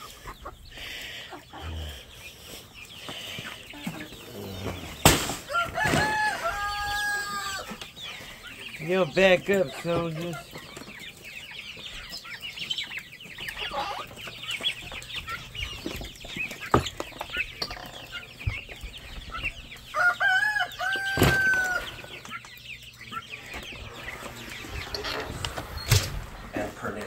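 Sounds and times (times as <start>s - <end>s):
chickens clucking: 0.0s - 27.0s
chicks peeping: 0.0s - 27.0s.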